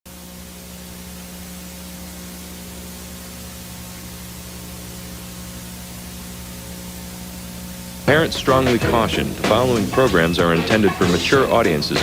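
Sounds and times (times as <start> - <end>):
low hum: 0.1 - 12.0
steady hiss: 0.1 - 12.0.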